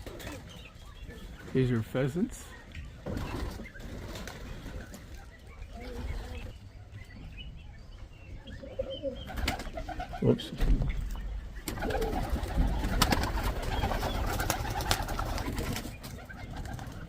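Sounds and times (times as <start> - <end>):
pigeons cooing: 0.0 - 7.7, 8.3 - 17.0.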